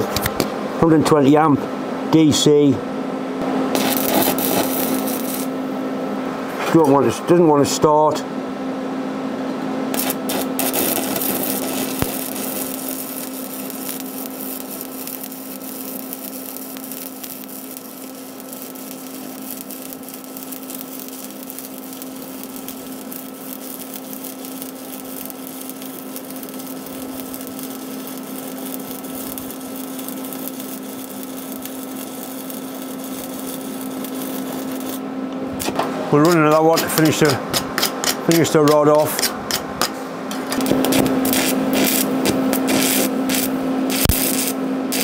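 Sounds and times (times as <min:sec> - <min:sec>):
low steady hum: 0:00.0 - 0:45.0
welding arc crackling sizzle: 0:03.4 - 0:05.8, 0:09.9 - 0:45.0.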